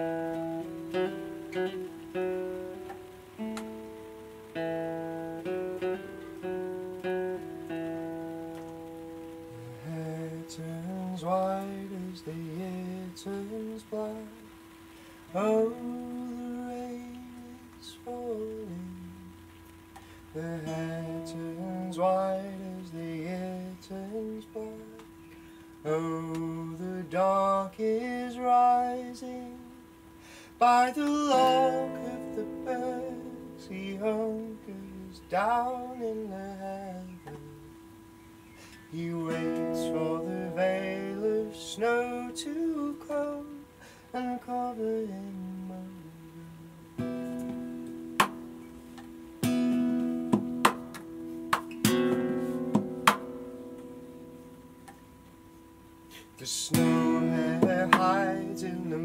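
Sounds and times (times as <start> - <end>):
slow instrumental folk tune: 0.0 - 59.0.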